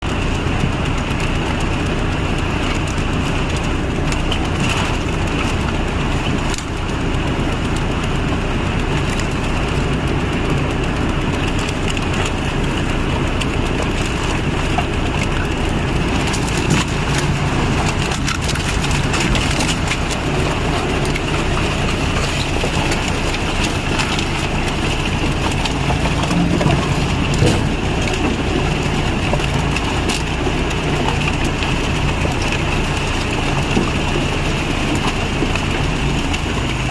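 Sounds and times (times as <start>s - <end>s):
cracking and crunching: 0.0s - 36.9s
machine engine running: 0.0s - 36.9s.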